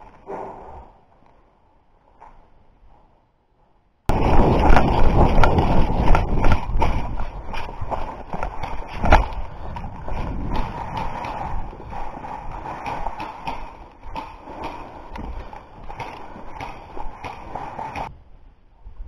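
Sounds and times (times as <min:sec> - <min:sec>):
rustling: 0:00.0 - 0:18.1.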